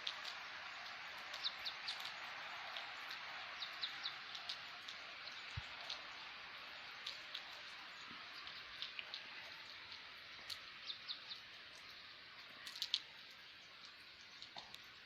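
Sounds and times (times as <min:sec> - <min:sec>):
water drops ticking: 0:00.0 - 0:12.0, 0:12.6 - 0:15.0
light rain hissing: 0:00.0 - 0:15.0.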